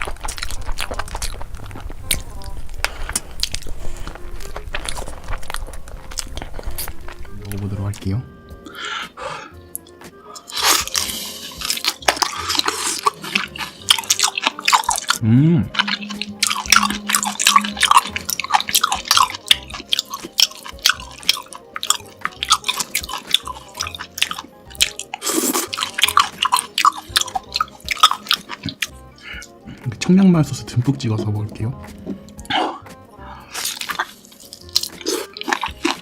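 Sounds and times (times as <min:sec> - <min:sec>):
chewing and crunching: 0:00.0 - 0:08.8, 0:09.7 - 0:30.0, 0:31.5 - 0:36.0.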